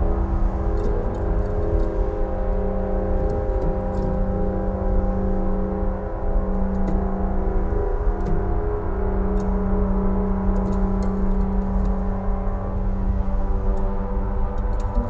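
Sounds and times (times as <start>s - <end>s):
held drone tones: 0.0s - 15.0s.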